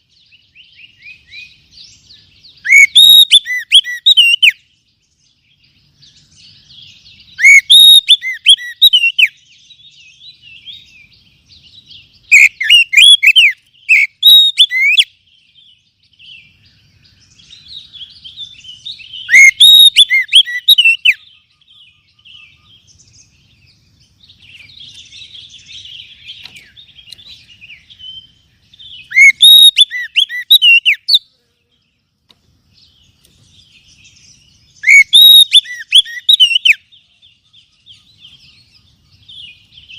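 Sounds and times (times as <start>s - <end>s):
bird whistled song: 0.0s - 32.0s, 32.7s - 39.9s
bird chattering and twittering: 0.0s - 39.9s.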